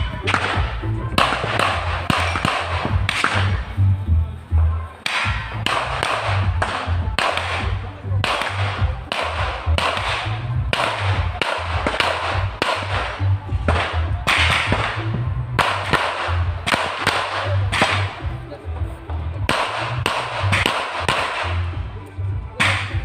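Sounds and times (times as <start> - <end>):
music with bass beat: 0.0 - 23.0
pistol shots: 0.2 - 3.6, 5.0 - 15.0, 15.6 - 18.2, 19.5 - 21.8, 22.6 - 23.0.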